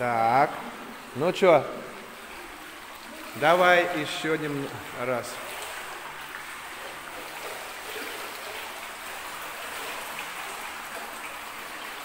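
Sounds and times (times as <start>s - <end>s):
pool water lapping and trickling: 0.0s - 12.0s.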